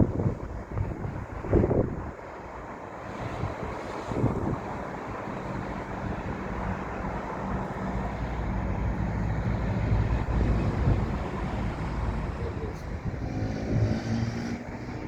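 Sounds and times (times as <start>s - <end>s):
diesel train engine droning: 0.0s - 13.9s
wind buffeting microphone: 0.0s - 15.0s.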